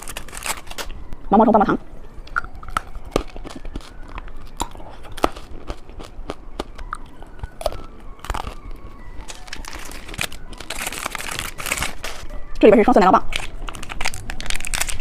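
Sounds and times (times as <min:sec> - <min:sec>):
hard candy crunching: 0:00.0 - 0:01.2, 0:02.2 - 0:15.0.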